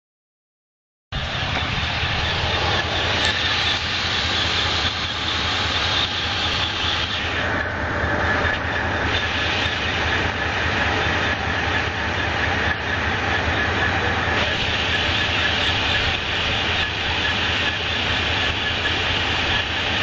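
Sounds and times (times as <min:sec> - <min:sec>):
car engine idling: 0:01.1 - 0:20.0
noisy engine clatter: 0:01.1 - 0:20.0.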